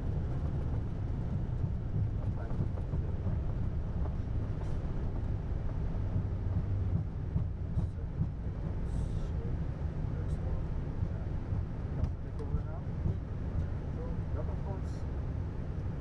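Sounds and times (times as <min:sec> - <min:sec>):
airliner cockpit rumble: 0:00.0 - 0:16.0.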